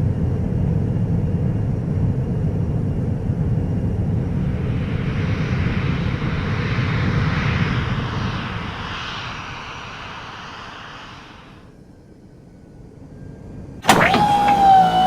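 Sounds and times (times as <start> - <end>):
aircraft engine passing: 1.0 - 15.0.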